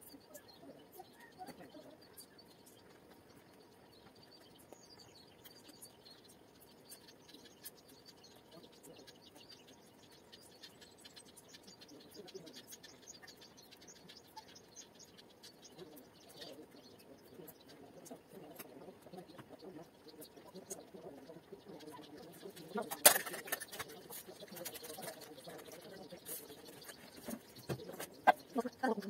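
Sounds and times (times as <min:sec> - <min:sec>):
faint high ticks and scratches: 0:00.0 - 0:29.0.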